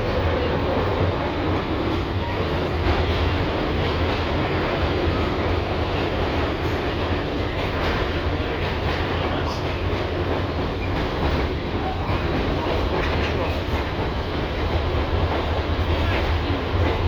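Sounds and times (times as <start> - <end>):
tram wheels rumbling on rail: 0.0 - 17.0.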